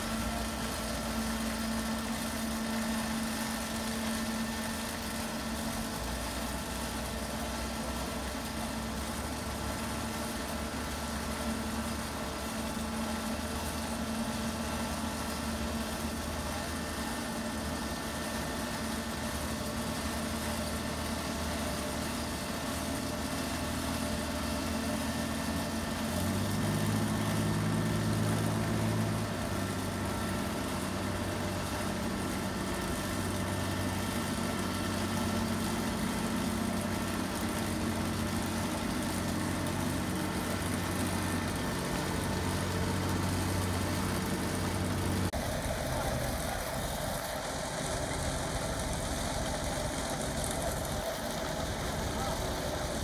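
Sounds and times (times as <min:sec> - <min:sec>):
quarry saw machine humming: 0:00.0 - 0:53.0.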